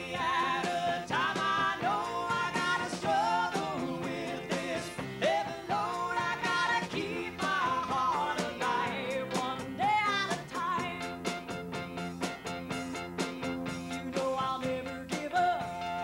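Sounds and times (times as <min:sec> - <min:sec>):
person singing: 0:00.0 - 0:11.2, 0:13.9 - 0:16.0
drums: 0:00.0 - 0:16.0
electric guitar: 0:00.0 - 0:16.0
keyboard: 0:00.0 - 0:16.0.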